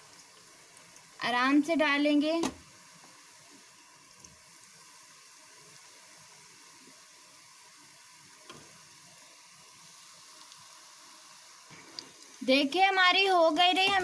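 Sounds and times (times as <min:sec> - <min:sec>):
dough sizzling in hot oil: 0:00.0 - 0:14.0.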